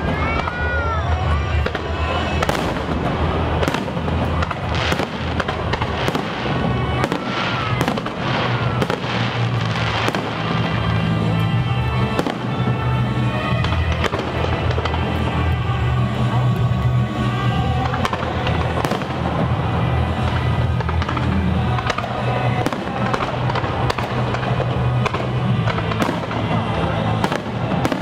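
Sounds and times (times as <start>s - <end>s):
fireworks bursting and crackling: 0.0s - 28.0s
music: 0.0s - 28.0s.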